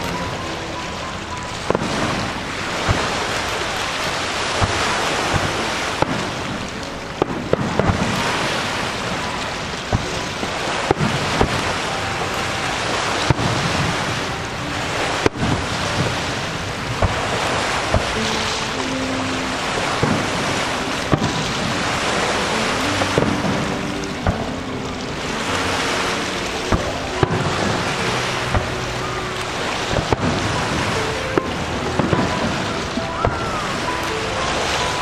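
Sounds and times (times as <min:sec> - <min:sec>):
fireworks bangs: 0:00.0 - 0:35.0
steady rushing noise: 0:00.0 - 0:35.0.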